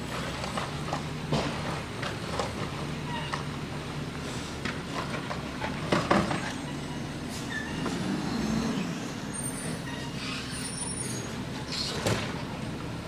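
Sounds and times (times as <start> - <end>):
garbage truck engine hum: 0.0 - 13.0.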